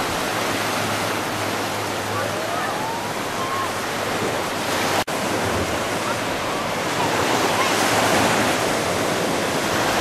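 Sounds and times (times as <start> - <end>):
surf breaking and waves washing: 0.0 - 10.0.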